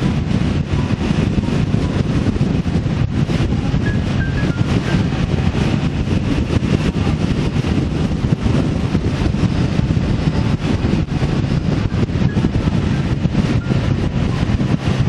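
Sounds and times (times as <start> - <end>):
vehicle road and engine noise: 0.0 - 15.0
wind buffeting microphone: 0.0 - 15.0.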